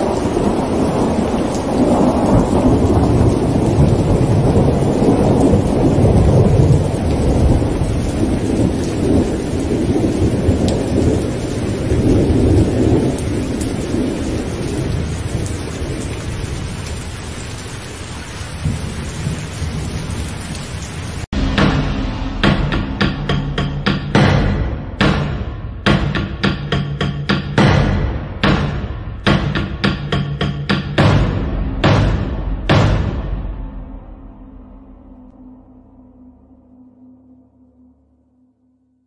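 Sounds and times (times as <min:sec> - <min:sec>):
deep thunder-like rumbling: 0:00.0 - 0:37.1.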